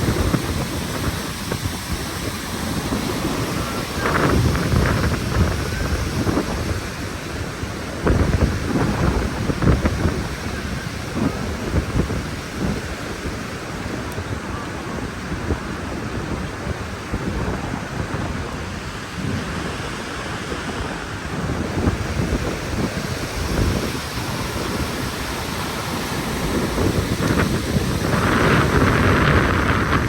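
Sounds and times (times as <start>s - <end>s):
waterfall roaring: 0.0s - 30.0s
wind buffeting microphone: 0.0s - 30.0s.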